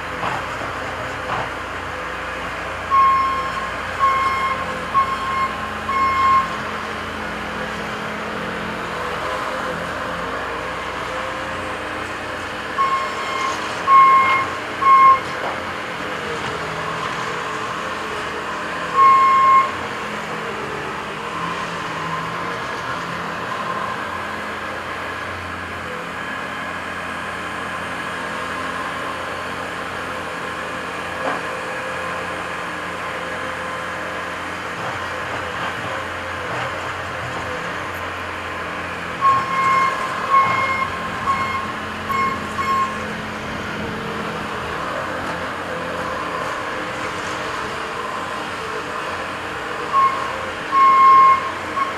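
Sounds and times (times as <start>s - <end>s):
construction machines running: 0.0s - 51.9s.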